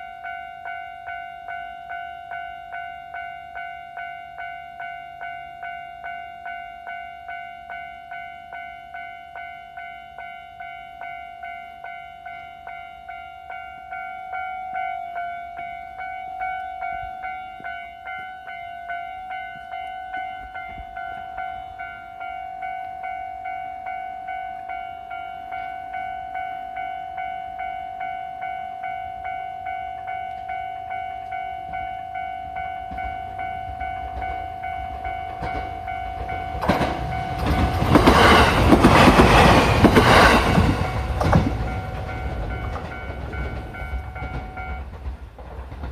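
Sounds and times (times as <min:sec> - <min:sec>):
level-crossing electronic bell: 0:00.0 - 0:45.0
low train rumble: 0:00.0 - 0:45.9.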